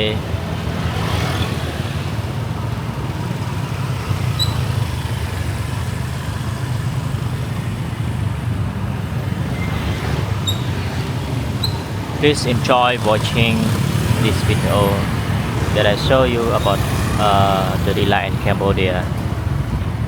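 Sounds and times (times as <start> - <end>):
car engines running: 0.0 - 20.0
motorbike engines running: 0.0 - 20.0.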